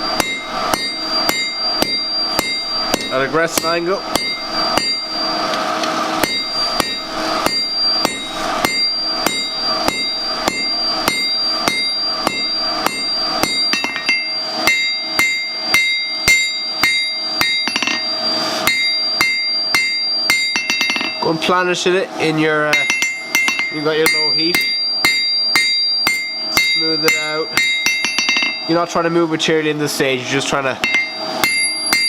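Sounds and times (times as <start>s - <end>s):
hammer striking steel on anvil: 0.0s - 21.3s, 22.6s - 28.8s, 30.8s - 32.0s.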